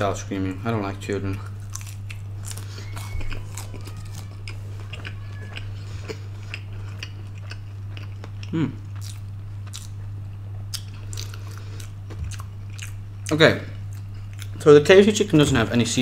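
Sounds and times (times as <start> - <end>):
steady low hum: 0.0 - 16.0
crunchy chewing: 1.3 - 14.6.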